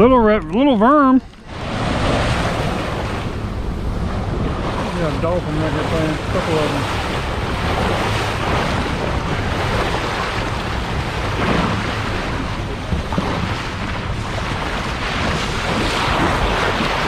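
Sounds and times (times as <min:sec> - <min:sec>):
sea waves washing around boat: 0:00.0 - 0:17.0
wind rushing over microphone: 0:00.0 - 0:17.0.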